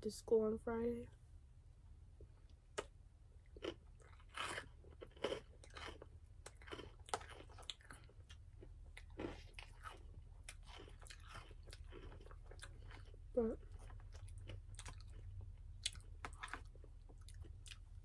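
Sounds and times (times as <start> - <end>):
person chewing food: 2.2 - 18.0.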